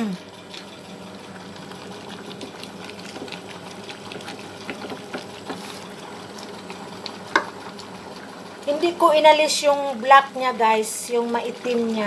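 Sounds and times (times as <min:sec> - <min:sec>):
sauce simmering in a pan: 0:00.1 - 0:12.0.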